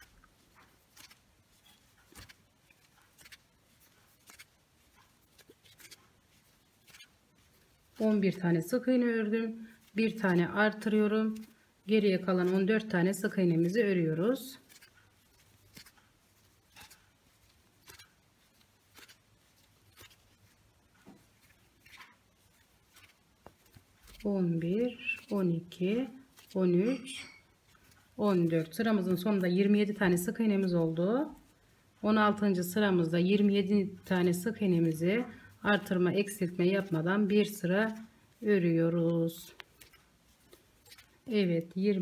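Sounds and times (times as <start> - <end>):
crochet hook ticks and rustles: 0.0 - 42.0.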